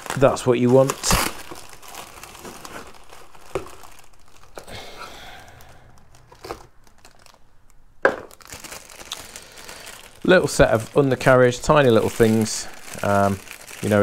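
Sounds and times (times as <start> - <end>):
bubble wrap rustling: 0.0 - 14.0
plastic bag crinkling: 0.0 - 14.0.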